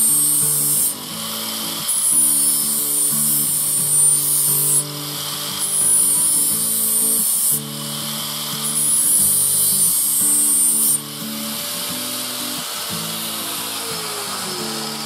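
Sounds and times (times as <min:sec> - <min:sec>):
angle grinder grinding steel: 0:00.0 - 0:15.0.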